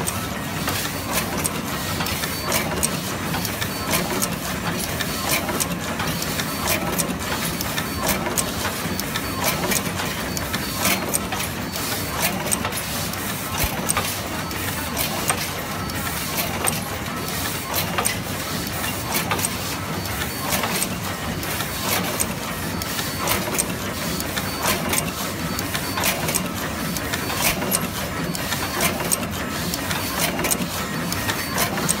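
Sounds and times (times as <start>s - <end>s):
sharp mechanical clicks and clacks: 0.0s - 32.0s.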